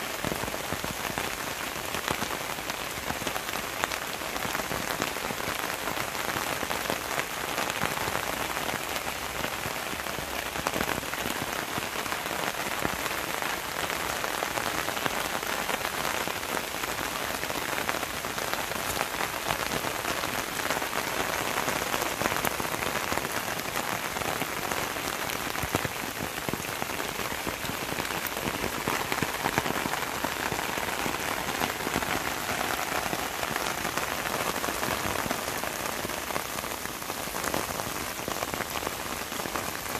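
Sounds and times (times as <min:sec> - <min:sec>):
rain on leaves and grass: 0:00.0 - 0:39.9.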